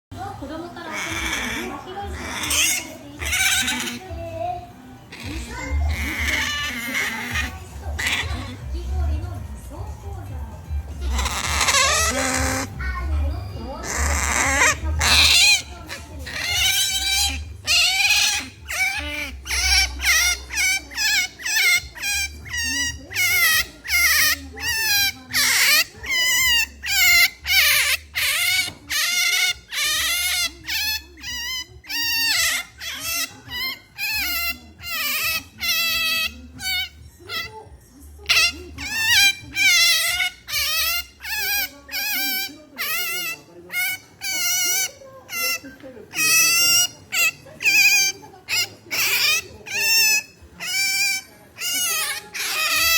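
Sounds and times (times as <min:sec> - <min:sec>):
otter squeaking: 0:00.2 - 0:04.4, 0:05.0 - 0:09.4, 0:10.8 - 0:52.9.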